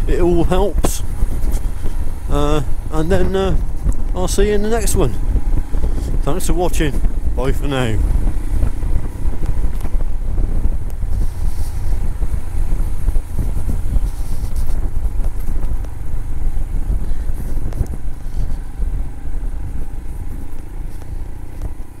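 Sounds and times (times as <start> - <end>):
motorcycle engine running: 0.0 - 22.0
wind on microphone: 0.0 - 22.0.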